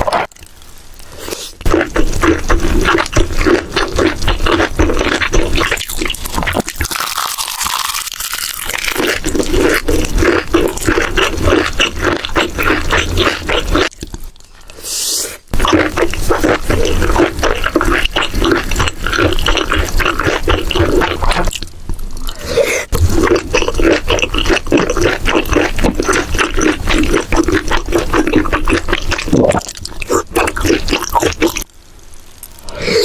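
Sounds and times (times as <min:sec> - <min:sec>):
wet chewing and mouth smacking: 0:01.2 - 0:14.8, 0:15.5 - 0:31.7.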